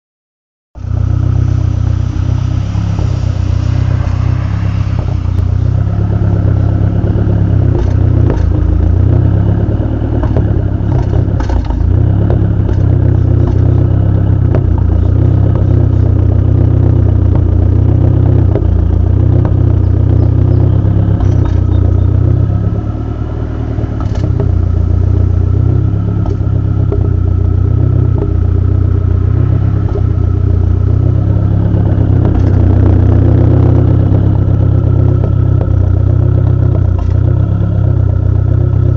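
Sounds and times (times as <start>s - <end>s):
car engine idling with misfire: 0.8s - 38.9s.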